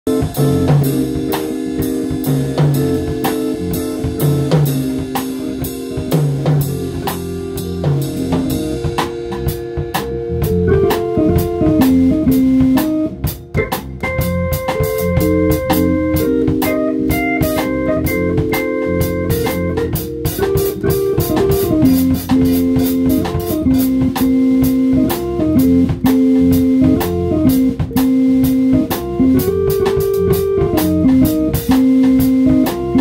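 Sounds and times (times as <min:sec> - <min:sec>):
bass line: 0:00.1 - 0:33.0
drum kit beat: 0:00.1 - 0:33.0
sustained chords: 0:00.1 - 0:33.0.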